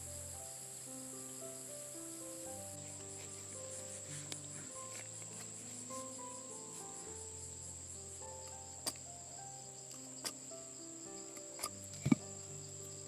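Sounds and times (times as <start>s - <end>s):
high-pitched insect trilling: 0.0s - 13.0s
soft background music: 0.0s - 13.0s.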